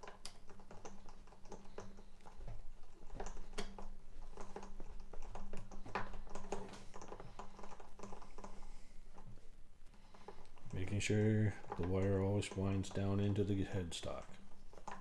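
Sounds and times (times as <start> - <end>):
string winder clicking and rattling: 0.0 - 15.0.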